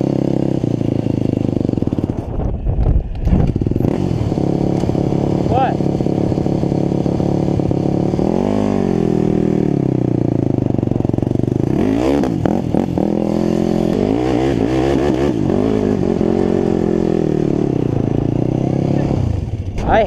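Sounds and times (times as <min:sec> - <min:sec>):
quad engine revving: 0:00.0 - 0:20.0.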